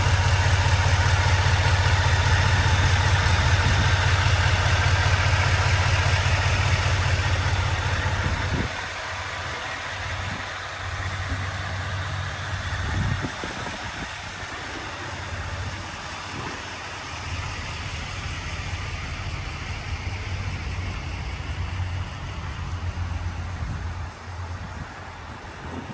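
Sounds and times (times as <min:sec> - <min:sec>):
pickup engine idling: 0:00.0 - 0:25.9.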